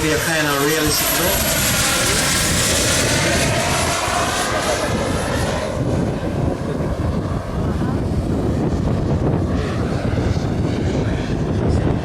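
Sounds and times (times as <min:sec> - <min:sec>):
distant jet turbine whine: 0:00.0 - 0:12.0
wind rumble on microphone: 0:00.0 - 0:12.0.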